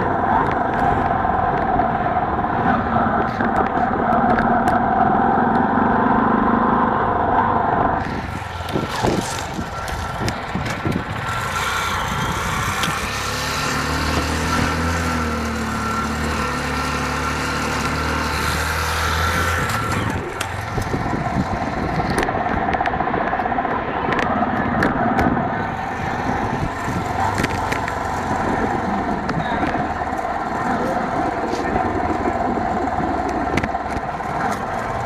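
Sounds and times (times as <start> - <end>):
motorcycle engine running: 0.0 - 35.0
street traffic: 0.0 - 35.0.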